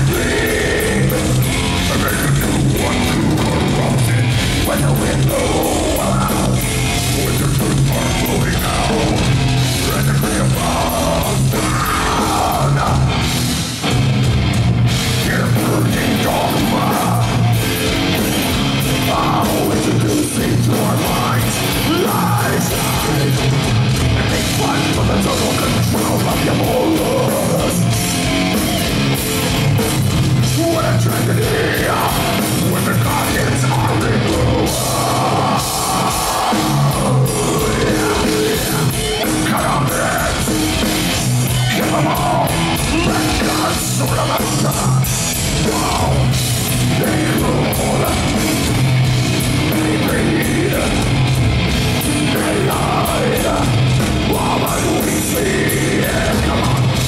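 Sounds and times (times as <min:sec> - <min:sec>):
bass guitar: 0:00.0 - 0:57.0
distorted electric guitars: 0:00.0 - 0:57.0
drum kit: 0:00.0 - 0:57.0
metal vocals: 0:00.0 - 0:57.0.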